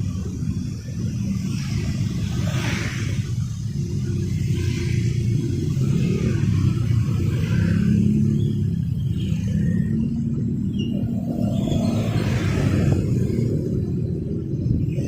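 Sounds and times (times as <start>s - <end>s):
traffic rumble: 0.0s - 15.0s
vehicles hissing past: 1.3s - 14.0s.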